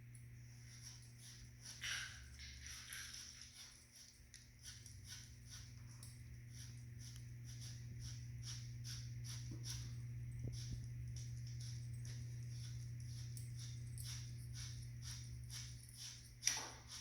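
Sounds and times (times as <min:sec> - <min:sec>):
bicycle cable ticking and rasping: 0:00.0 - 0:17.0
steady low hum: 0:00.0 - 0:17.0.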